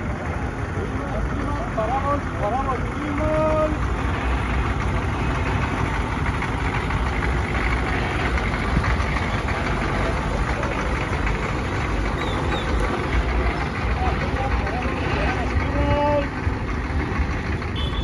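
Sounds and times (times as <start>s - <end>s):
bus engine running at low speed: 0.0s - 18.0s.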